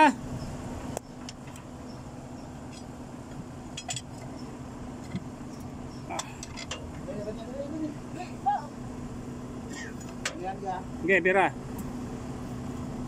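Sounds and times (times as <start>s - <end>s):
forklift engine humming: 0.0s - 13.0s.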